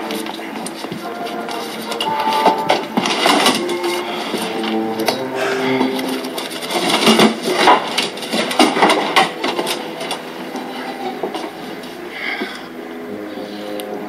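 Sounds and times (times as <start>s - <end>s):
faint held musical notes: 0.0s - 14.0s.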